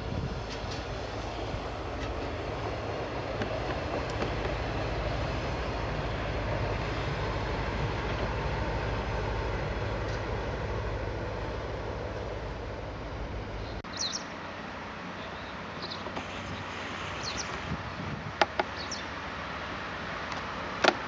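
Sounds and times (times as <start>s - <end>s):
wheel and rail noise: 0.0s - 21.0s.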